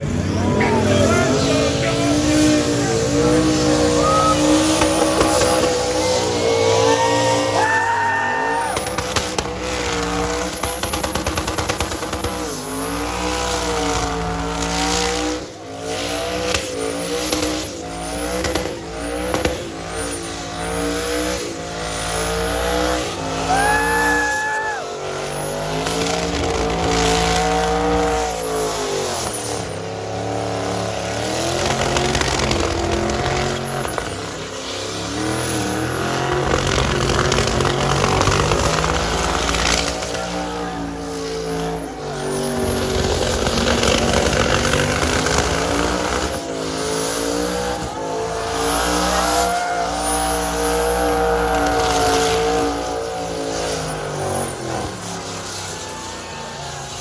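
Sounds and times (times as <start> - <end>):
engine revving: 0.0 - 57.0
tires squealing: 0.0 - 57.0.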